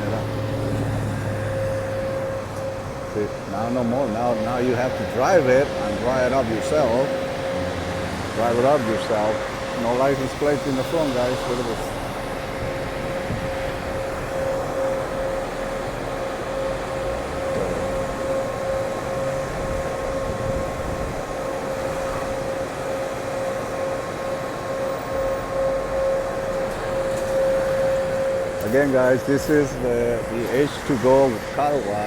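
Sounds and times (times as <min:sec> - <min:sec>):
car wash machinery whirring: 0:00.0 - 0:32.0.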